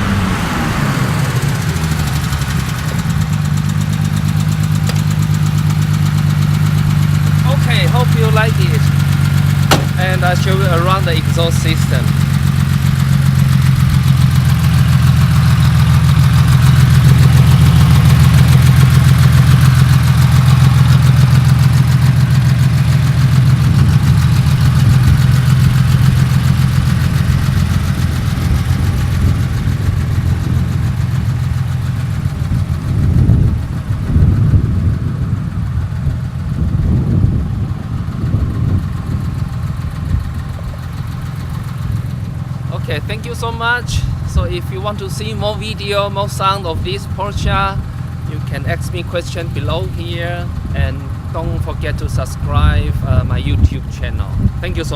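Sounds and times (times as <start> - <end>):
engine revving: 0.0 - 53.4
car engine idling: 0.0 - 54.9.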